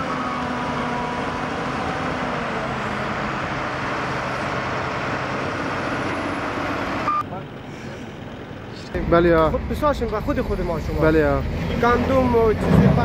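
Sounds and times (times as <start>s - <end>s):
diesel engines running: 0.0s - 13.0s.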